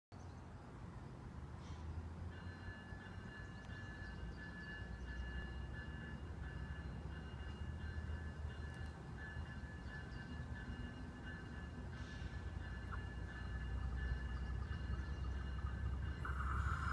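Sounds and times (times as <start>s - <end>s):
distant train rumbling: 0.7s - 16.9s
faint high ringing: 2.4s - 16.9s.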